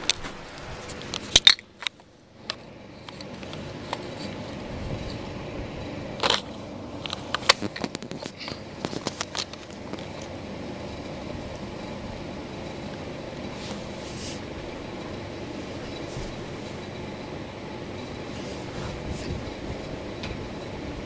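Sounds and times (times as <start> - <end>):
ceiling fan whirring: 0.0 - 21.0.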